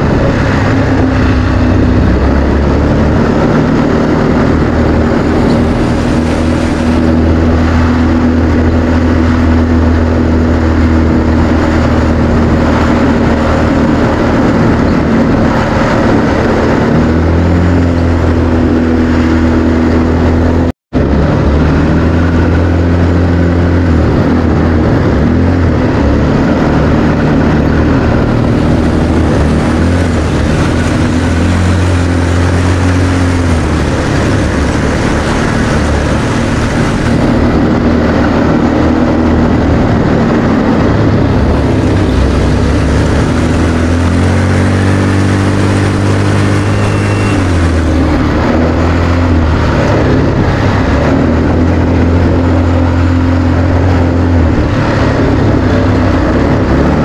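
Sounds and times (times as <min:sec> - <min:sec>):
quad bike engine running: 0:00.0 - 0:57.0
rushing noise: 0:00.0 - 0:57.0.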